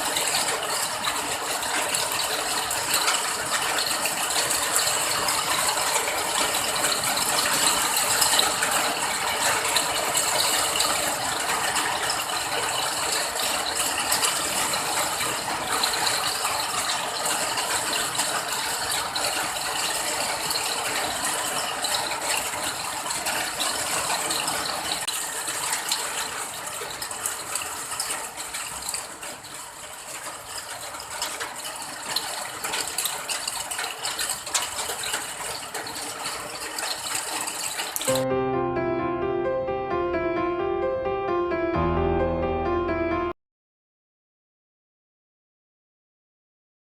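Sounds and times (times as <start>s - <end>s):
rain falling: 0.0s - 38.3s.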